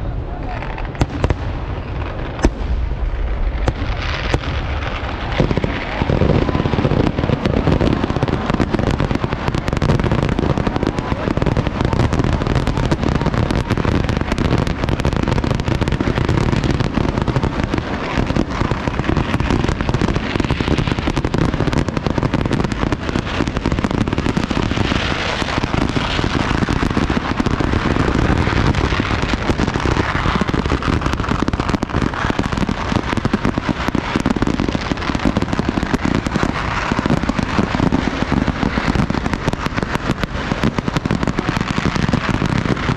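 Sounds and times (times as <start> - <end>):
continuous firework explosions: 0.0 - 42.9.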